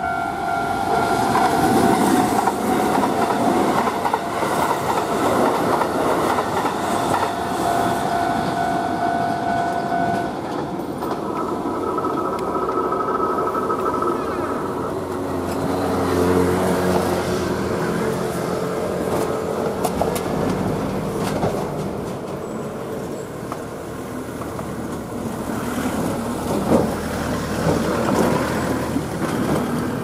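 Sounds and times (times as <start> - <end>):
train wheel rumble on rails: 0.0 - 30.0.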